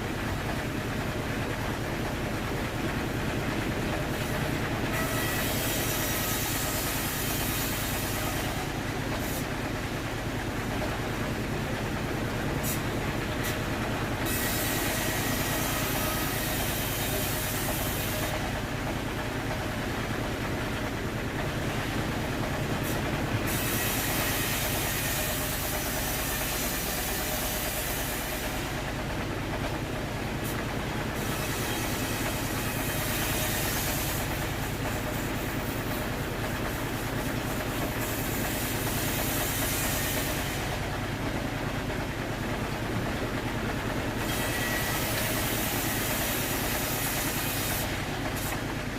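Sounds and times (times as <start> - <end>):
sawmill machinery sawing logs: 0.0 - 48.9.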